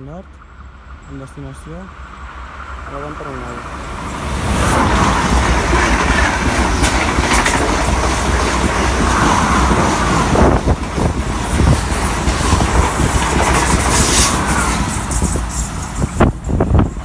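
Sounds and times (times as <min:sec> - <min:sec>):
train passing at speed: 0:00.0 - 0:17.0
wheels clacking over track: 0:02.3 - 0:17.0.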